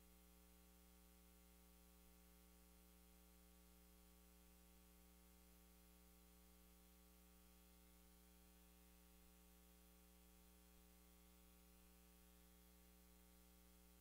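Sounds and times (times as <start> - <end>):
faint hum and hiss: 0.0 - 14.0.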